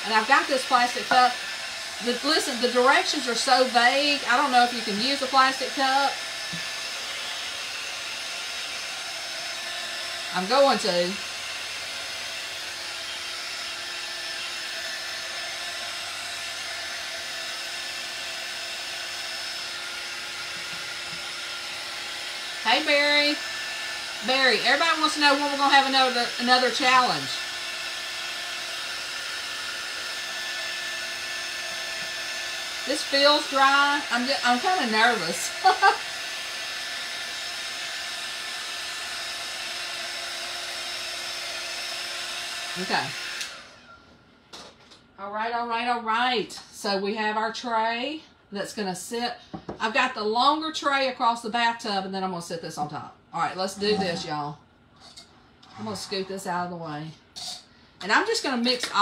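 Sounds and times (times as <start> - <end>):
heat gun blowing with a hum: 0.0 - 45.0, 52.1 - 59.0.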